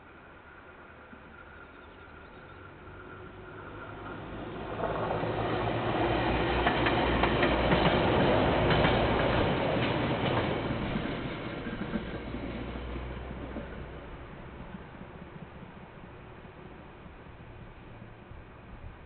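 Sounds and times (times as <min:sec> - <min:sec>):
train running past on rails: 0:00.0 - 0:19.0.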